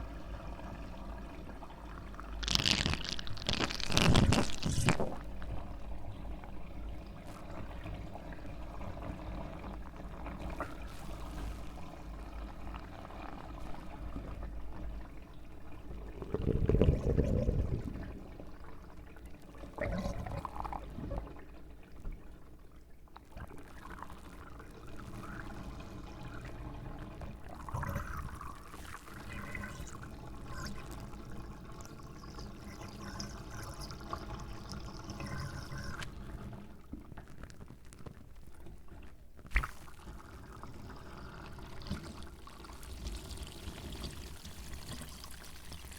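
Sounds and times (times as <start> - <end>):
water pouring and trickling: 0.3 - 45.9.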